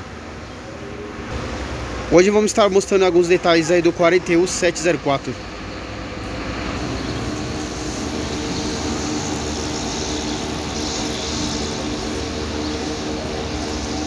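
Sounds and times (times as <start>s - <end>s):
bus diesel engine idling: 0.0s - 14.0s.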